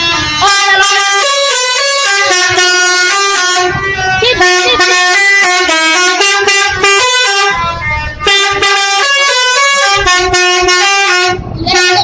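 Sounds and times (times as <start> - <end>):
bus horn playing a tune: 0.0 - 12.0.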